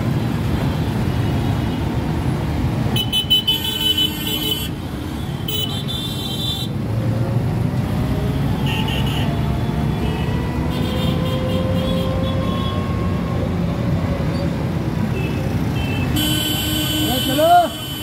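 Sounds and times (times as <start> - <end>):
traffic engine and tyre noise: 0.0 - 18.0.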